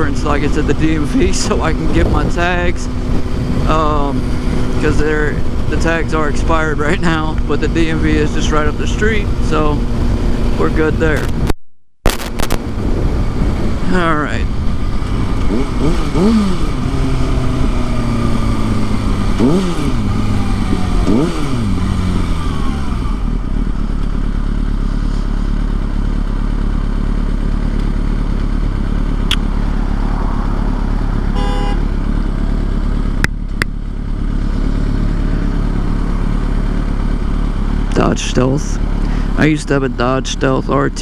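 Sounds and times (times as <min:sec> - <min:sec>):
motorcycle engine accelerating: 0:00.0 - 0:41.0
road noise: 0:00.0 - 0:41.0.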